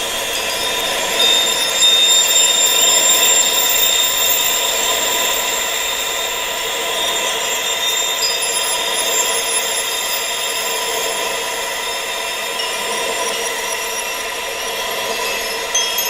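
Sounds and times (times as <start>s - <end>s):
steady high-pitched tones: 0.0s - 16.0s
wind hiss: 0.0s - 16.0s.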